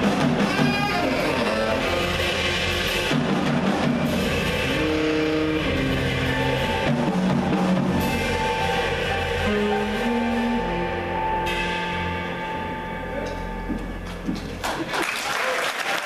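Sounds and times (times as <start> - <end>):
drum kit: 0.0 - 14.9
jazz group playing: 0.0 - 14.9.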